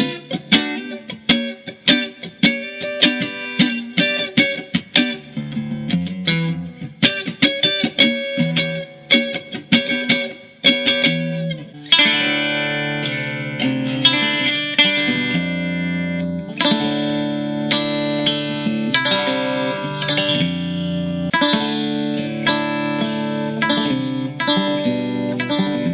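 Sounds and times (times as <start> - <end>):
electric guitar chords ringing: 0.0 - 25.9
electric guitar picked notes: 0.0 - 25.9.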